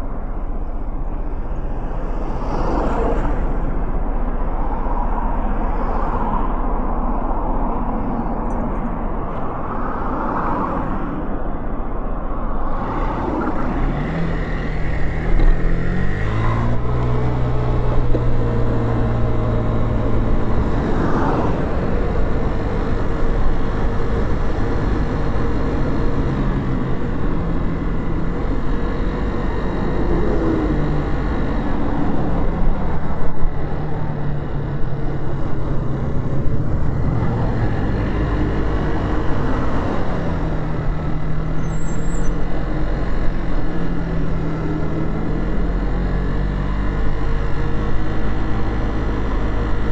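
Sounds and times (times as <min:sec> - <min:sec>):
cars passing: 0:00.0 - 0:49.9
road and wind noise: 0:00.0 - 0:49.9.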